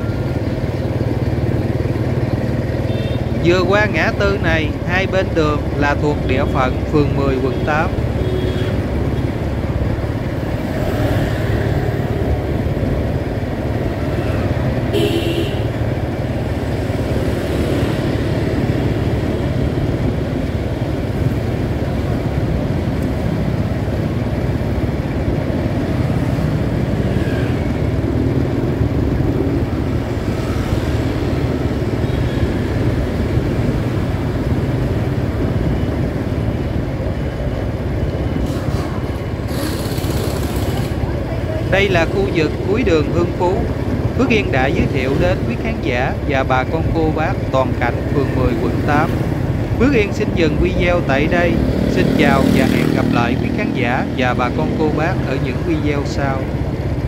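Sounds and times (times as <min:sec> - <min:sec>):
motorbikes: 0:00.0 - 0:57.0
street traffic rumble: 0:00.0 - 0:57.0.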